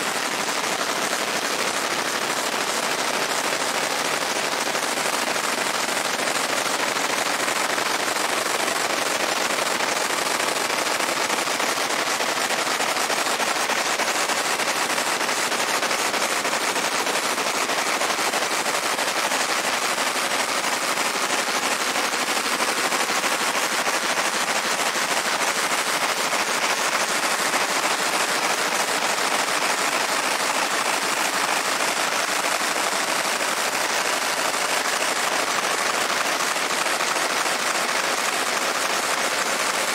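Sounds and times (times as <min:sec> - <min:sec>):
laser engraving crackle: 0:00.0 - 0:39.9.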